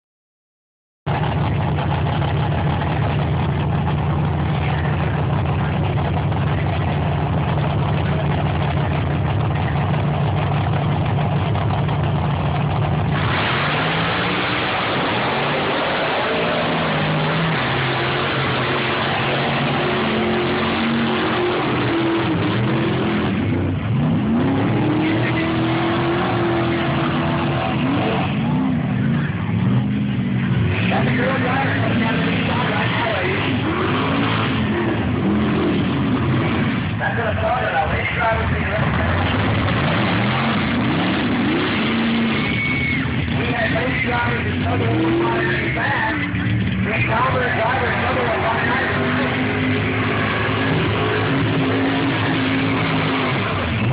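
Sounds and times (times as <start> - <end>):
truck engine revving: 1.1 - 53.9.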